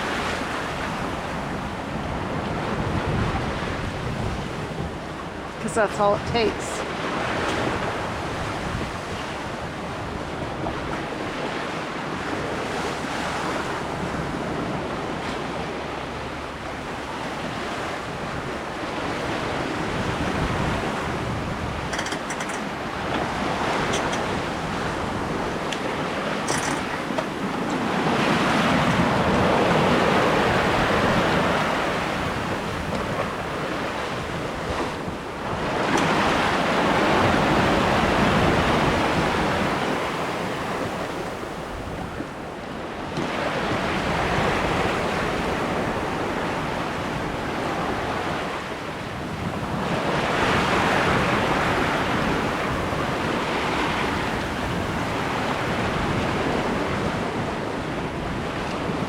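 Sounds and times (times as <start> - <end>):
lake waves: 0.0 - 59.0
water rushing along hull: 0.0 - 59.0
wind buffeting microphone: 0.0 - 59.0.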